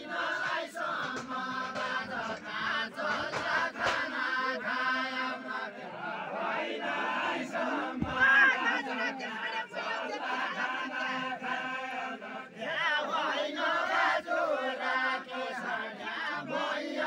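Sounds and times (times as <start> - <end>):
crowd noise: 0.0 - 17.0
men singing folk song in chorus: 0.0 - 17.0.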